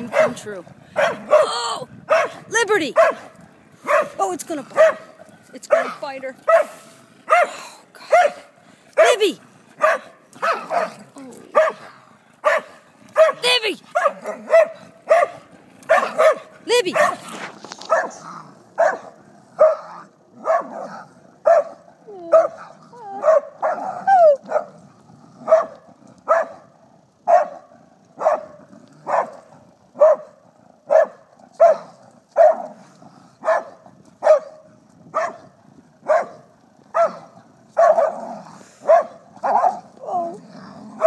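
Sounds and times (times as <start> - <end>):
dog barking: 0.0 - 5.1, 5.7 - 17.2, 17.9 - 18.2, 18.8 - 24.8, 25.4 - 29.4, 30.0 - 32.8, 33.4 - 38.2, 38.8 - 39.9.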